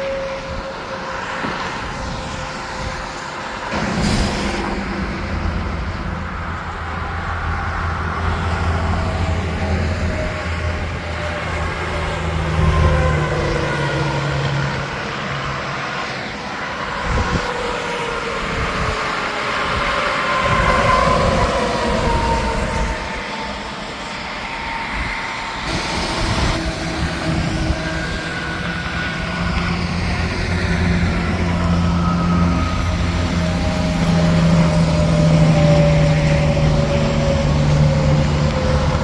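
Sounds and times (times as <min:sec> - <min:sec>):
highway traffic rumble: 0:00.0 - 0:39.0
passing truck tyre whine: 0:00.0 - 0:39.0.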